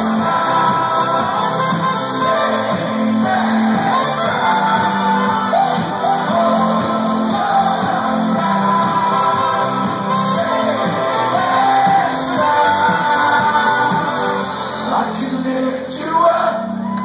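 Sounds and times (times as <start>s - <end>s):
bass guitar: 0.0s - 15.8s
keyboards: 0.0s - 16.8s
lead singer: 0.0s - 17.0s.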